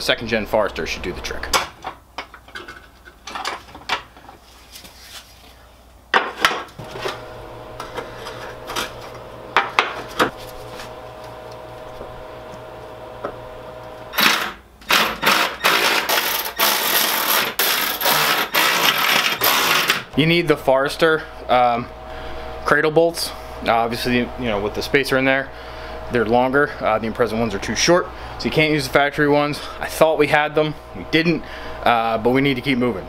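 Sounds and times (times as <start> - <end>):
steady hum: 5.8 - 33.0.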